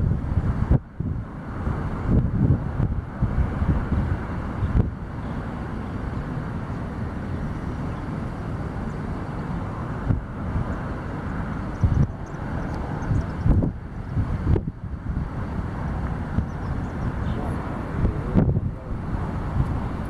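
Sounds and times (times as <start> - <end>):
wind buffeting microphone: 0.0 - 20.0
jet engines running: 1.3 - 20.0.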